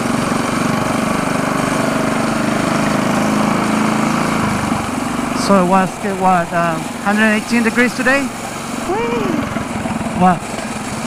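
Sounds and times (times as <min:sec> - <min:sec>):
small bike engine running: 0:00.0 - 0:11.0.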